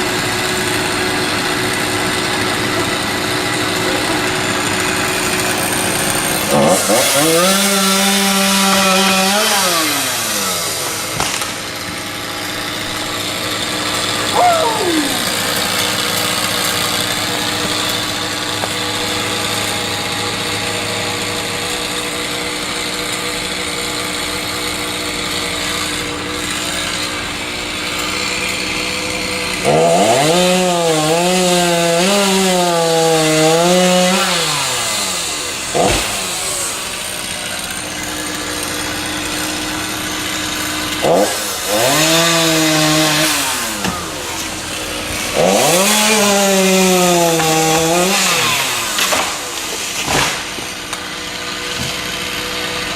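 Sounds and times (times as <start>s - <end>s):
chainsaw idling: 0.0s - 52.9s
chainsaw revving: 0.0s - 52.9s.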